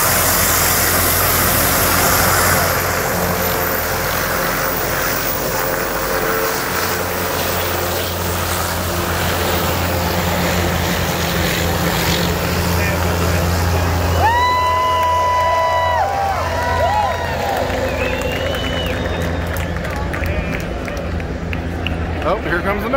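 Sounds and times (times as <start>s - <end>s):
helicopter turbine and rotor: 0.0s - 22.9s.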